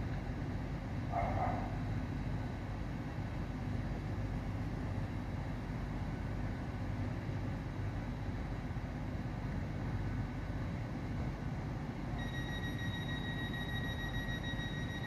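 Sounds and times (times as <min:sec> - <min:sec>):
train diesel engine hum and rumble: 0:00.0 - 0:15.0.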